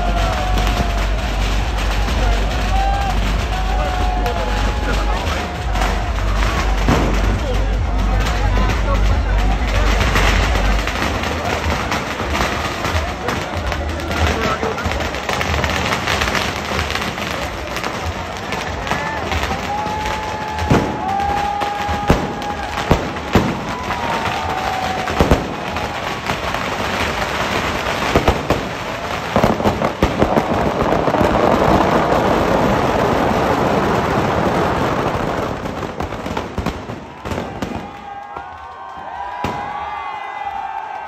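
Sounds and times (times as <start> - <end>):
firecrackers banging and crackling: 0.0 - 41.0.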